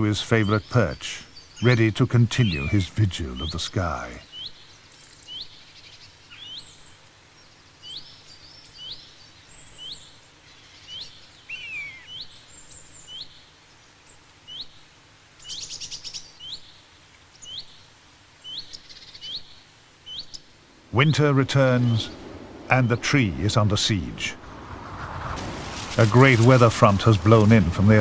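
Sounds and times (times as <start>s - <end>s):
bird chirping: 0.0s - 24.2s.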